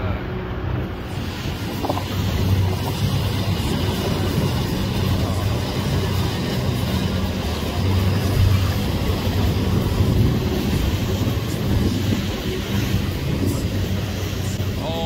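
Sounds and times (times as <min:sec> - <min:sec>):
boat engine humming: 0:00.0 - 0:15.0
wind buffeting microphone: 0:00.8 - 0:15.0.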